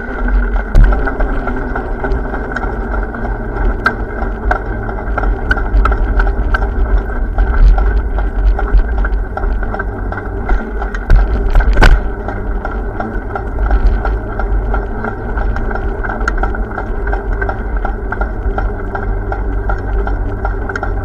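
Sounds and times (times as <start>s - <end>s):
light ticking: 0.0s - 21.0s
vehicle running noise: 0.0s - 21.0s
wind on microphone: 0.0s - 21.0s.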